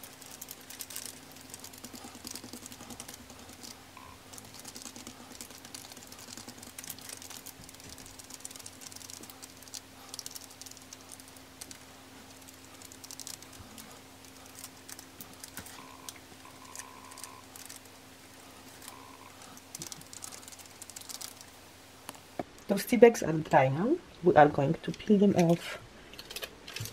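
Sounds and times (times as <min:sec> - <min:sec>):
plastic crinkling and tapping: 0:00.0 - 0:18.0, 0:18.7 - 0:22.6
faint steady hum: 0:00.0 - 0:26.9.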